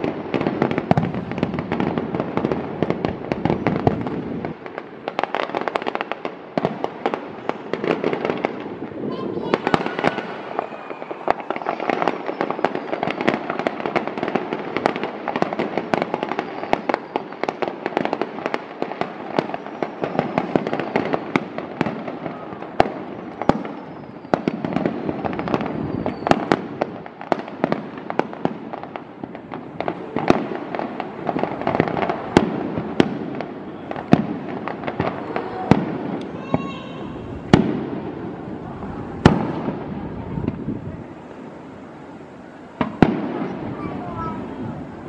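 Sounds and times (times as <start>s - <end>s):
fireworks crackle: 0.0s - 45.0s
fireworks cracks and bangs: 0.0s - 45.0s.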